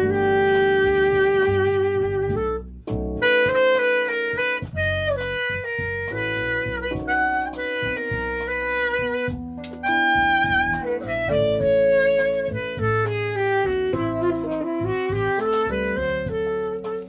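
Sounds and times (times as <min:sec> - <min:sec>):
electric keyboard chords: 0:00.0 - 0:17.0
tenor saxophone jazz ballad: 0:00.0 - 0:17.0.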